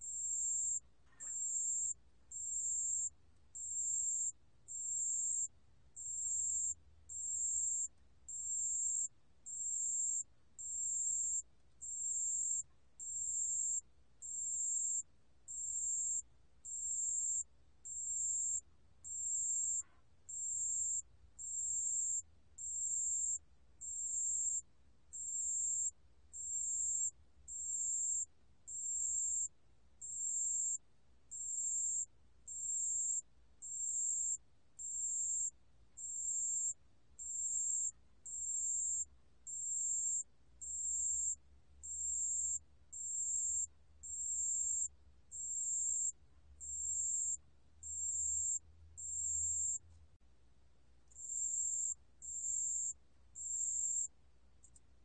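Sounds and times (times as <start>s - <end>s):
cricket ringing trill: 0.1s - 24.6s, 25.2s - 30.8s, 31.4s - 49.8s, 51.2s - 54.1s.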